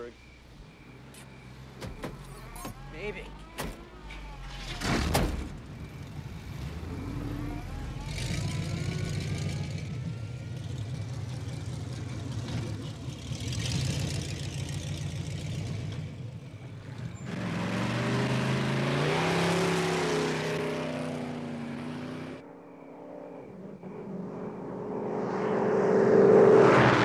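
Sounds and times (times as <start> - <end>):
car engine revving: 4.2 - 27.0.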